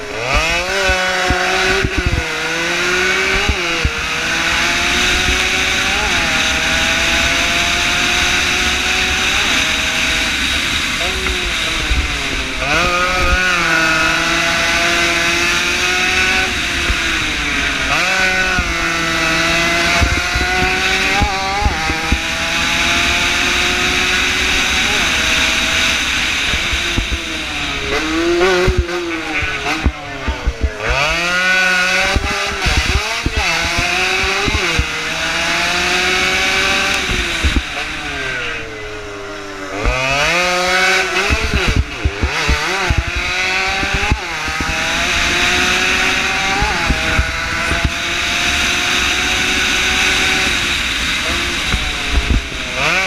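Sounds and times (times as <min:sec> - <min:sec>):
wind buffeting microphone: 0:00.0 - 0:23.9, 0:24.7 - 0:38.6, 0:39.4 - 0:53.0
motorcycle engine revving high: 0:00.0 - 0:53.0.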